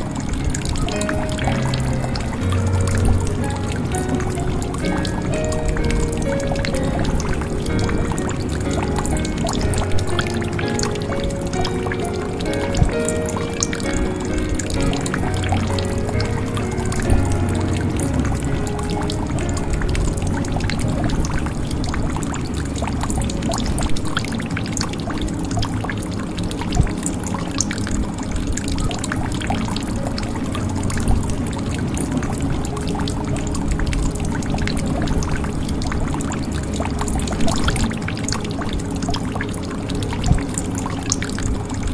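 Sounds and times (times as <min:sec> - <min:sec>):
water drops: 0:00.0 - 0:41.9.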